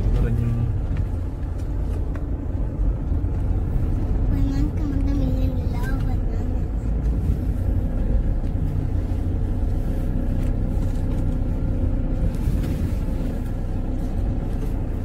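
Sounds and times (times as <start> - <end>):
car driving on rough dirt road: 0.0 - 15.0.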